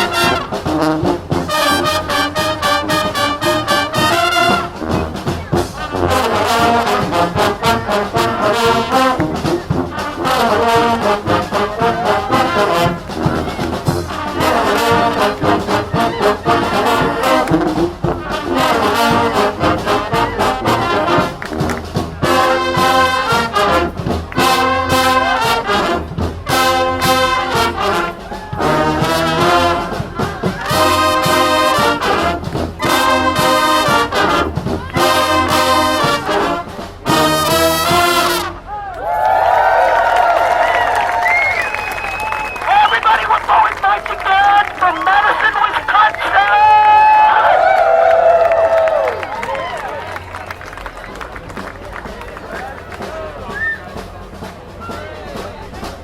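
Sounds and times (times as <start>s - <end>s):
brass marching band playing: 0.0s - 56.0s.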